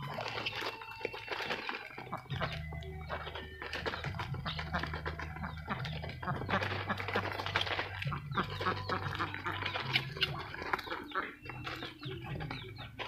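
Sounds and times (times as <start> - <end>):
duck bills pecking feed tray: 0.0 - 13.0
duck calls: 0.0 - 13.0.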